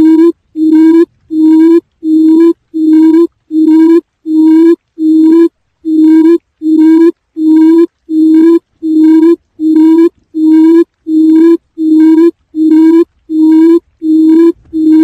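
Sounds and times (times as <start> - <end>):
low hooting quail call: 0.0 - 15.0.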